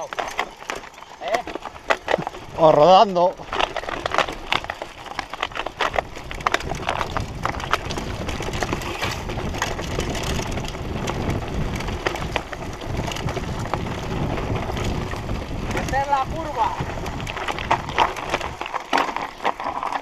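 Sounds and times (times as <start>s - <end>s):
bike rattling: 0.0s - 20.0s
bike tyres crunching over dirt: 0.0s - 20.0s.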